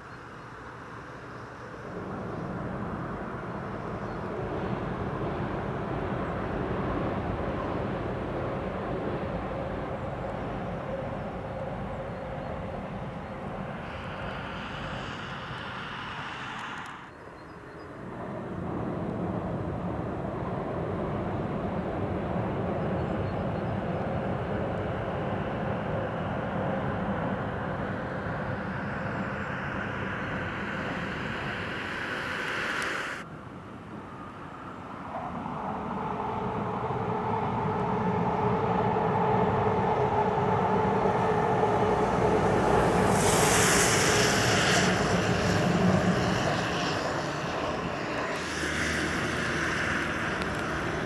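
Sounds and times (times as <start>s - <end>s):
trains rumbling across viaduct: 0.0s - 51.0s.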